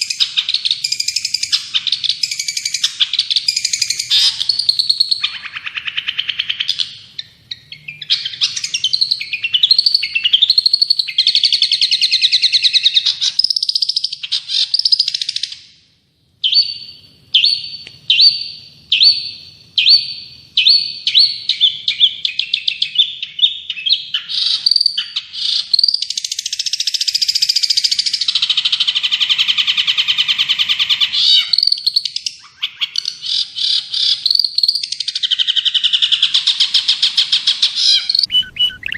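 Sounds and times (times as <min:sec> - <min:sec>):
dense warbling bird trill: 0:00.0 - 0:15.6, 0:16.4 - 0:38.9
repeated short bird chirps: 0:00.0 - 0:15.7, 0:16.4 - 0:38.9
songbird chirps and warbles: 0:00.0 - 0:38.9.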